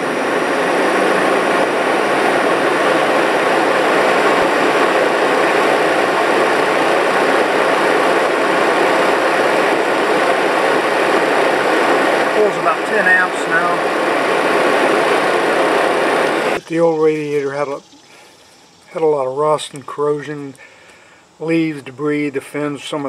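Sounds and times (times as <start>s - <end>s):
electric cooling fan running: 0.0s - 23.0s.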